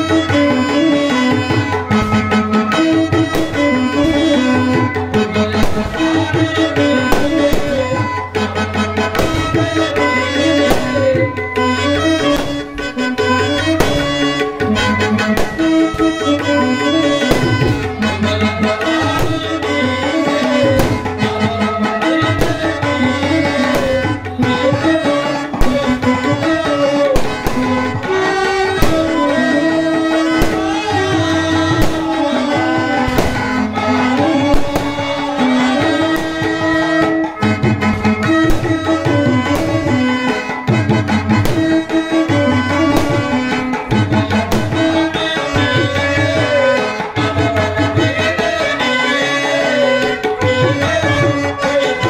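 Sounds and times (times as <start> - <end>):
tabla drumming: 0.0 - 52.0.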